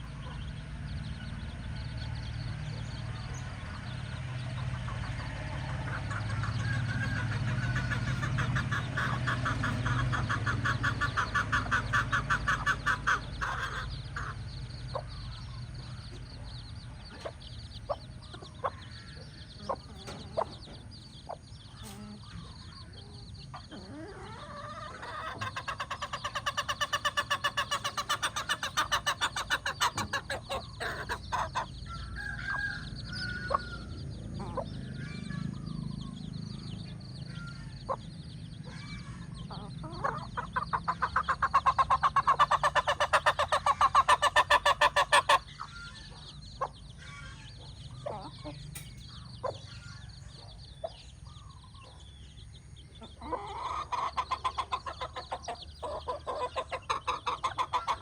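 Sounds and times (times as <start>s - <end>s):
hen clucking: 0.0s - 58.0s.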